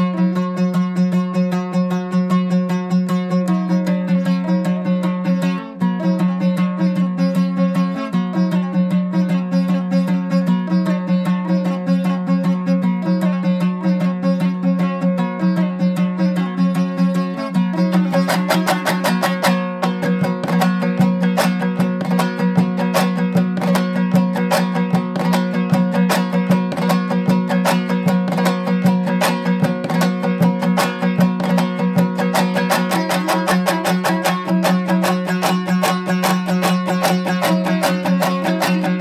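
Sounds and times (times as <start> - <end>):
fast plucked-string playing: 0.0 - 39.0.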